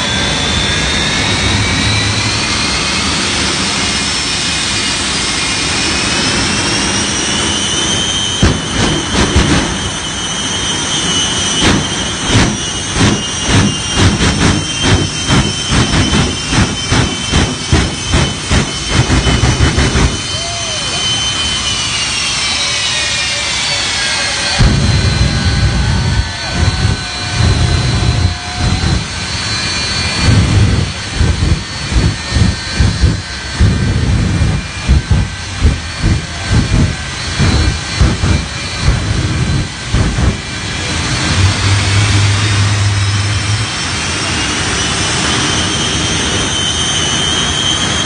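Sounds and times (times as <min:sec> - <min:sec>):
afterburner bursts: 0:00.0 - 0:48.0
jet engines whining: 0:00.0 - 0:48.0.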